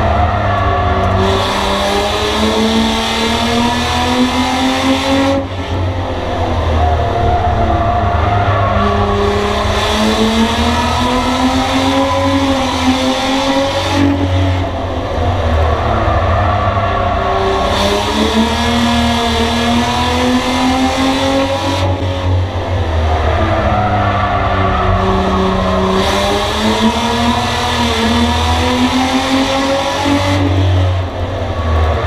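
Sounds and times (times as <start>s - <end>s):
race car engine revving: 0.0s - 32.0s
road and wind noise: 0.0s - 32.0s.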